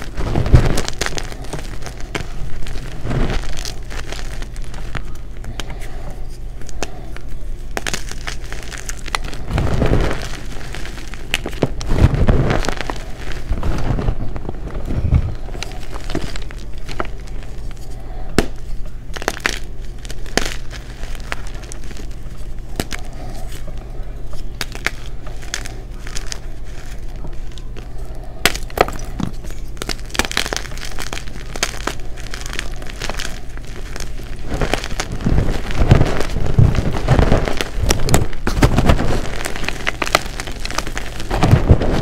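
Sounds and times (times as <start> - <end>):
chalk blocks crunching in hands: 0.0 - 42.0
low steady hum: 0.0 - 42.0.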